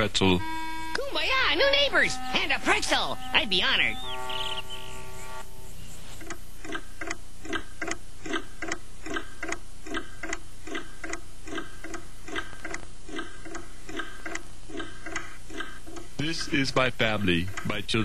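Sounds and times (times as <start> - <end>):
clock ticking: 0.9 - 4.0, 6.2 - 18.0.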